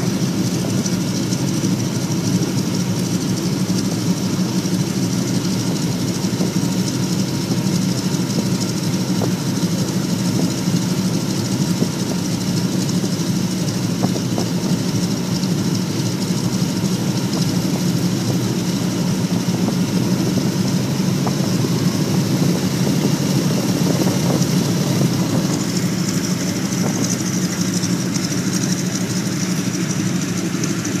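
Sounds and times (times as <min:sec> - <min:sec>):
propeller engine idling drone: 0:00.0 - 0:31.0.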